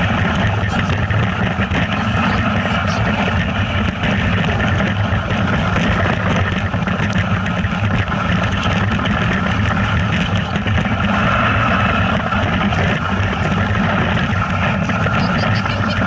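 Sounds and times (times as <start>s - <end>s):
steady rushing noise: 0.0s - 16.0s
vehicle engine droning: 0.0s - 16.0s.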